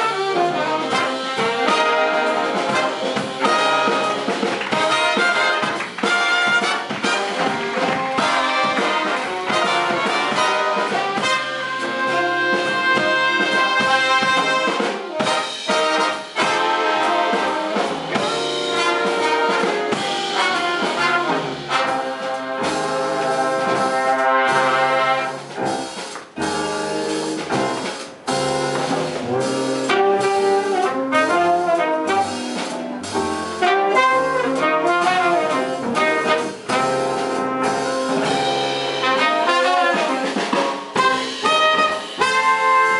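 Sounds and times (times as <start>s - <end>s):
trumpets and trombones playing: 0.0s - 25.8s, 26.4s - 42.9s
big band jazz: 0.0s - 42.9s
brass ensemble hits: 0.0s - 42.9s.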